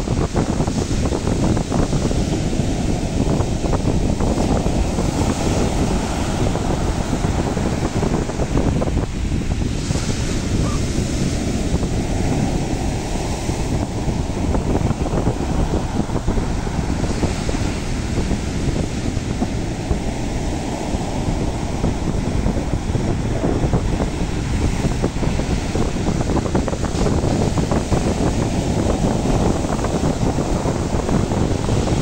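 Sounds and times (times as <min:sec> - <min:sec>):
sea surf washing onto shore: 0:00.0 - 0:32.0
wind buffeting microphone: 0:00.0 - 0:32.0.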